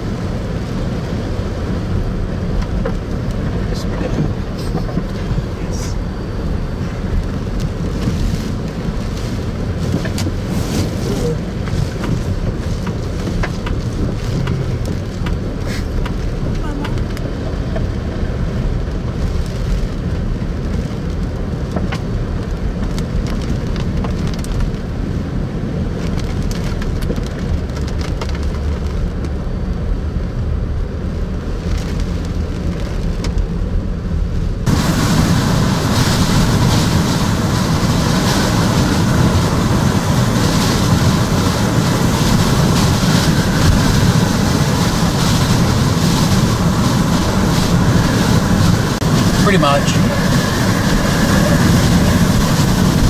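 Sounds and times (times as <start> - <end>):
heavy rain: 0.0 - 53.0
howling wind: 0.0 - 53.0.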